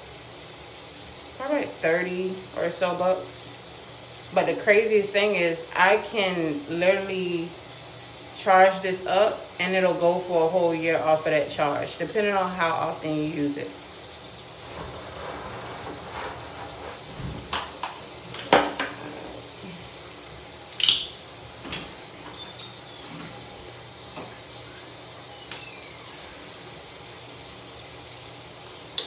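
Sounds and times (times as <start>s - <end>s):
sink tap running: 0.1s - 29.0s.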